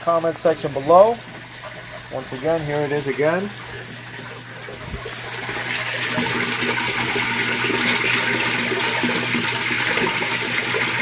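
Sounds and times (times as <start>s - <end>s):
water gushing and splashing: 0.0s - 11.0s.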